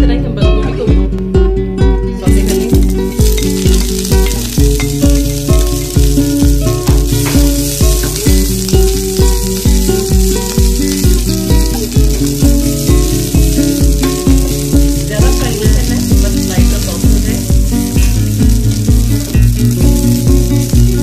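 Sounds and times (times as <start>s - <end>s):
fast beat background music: 0.0s - 21.0s
cabbage sizzling in oil: 2.2s - 21.0s.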